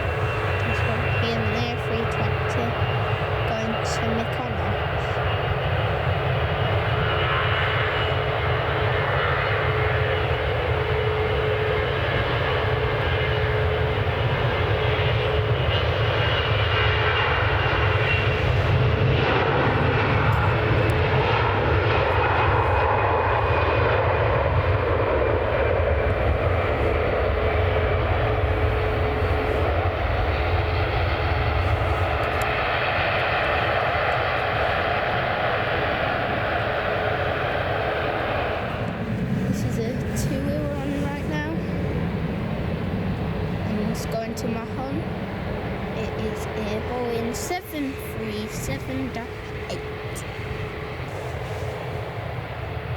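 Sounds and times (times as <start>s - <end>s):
airliner engines running: 0.0s - 52.9s
constant humming tone: 0.0s - 52.9s.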